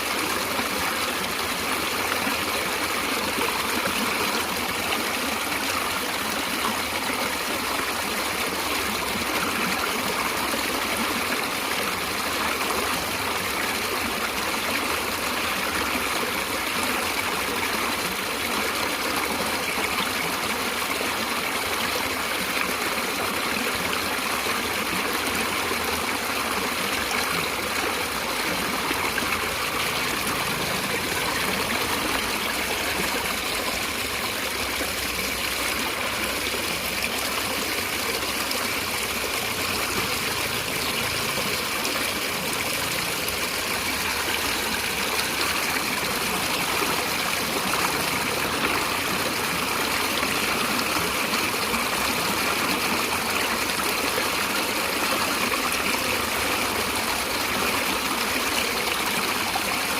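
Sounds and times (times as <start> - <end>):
stream of flowing water: 0.0 - 59.9.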